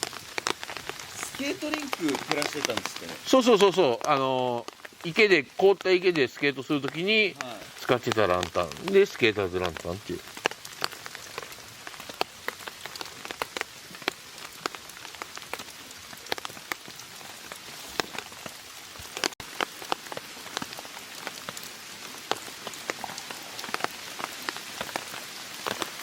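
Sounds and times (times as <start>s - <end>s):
raindrops ticking: 0.0s - 26.0s
steady rain falling: 0.0s - 26.0s.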